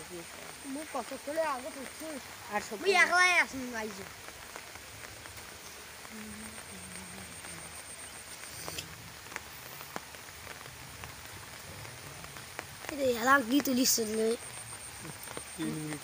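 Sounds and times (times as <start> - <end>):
rain on pond water: 0.0 - 16.0
water drops ticking: 0.1 - 16.0.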